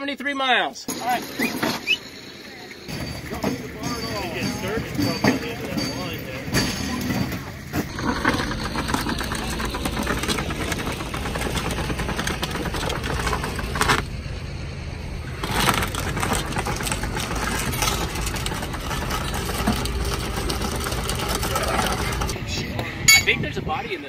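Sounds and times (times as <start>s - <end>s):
engine idling with clatter: 0.9s - 23.9s.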